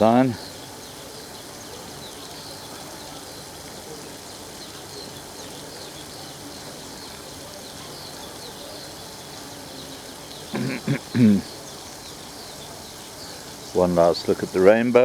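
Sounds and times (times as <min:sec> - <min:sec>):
birds chirping: 0:00.0 - 0:15.0
fountain splashing: 0:00.0 - 0:15.0.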